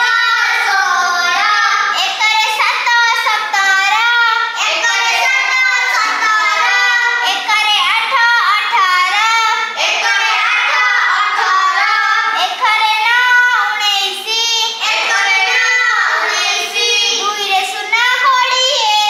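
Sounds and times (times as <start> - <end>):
girl singing a chant: 0.0 - 19.0.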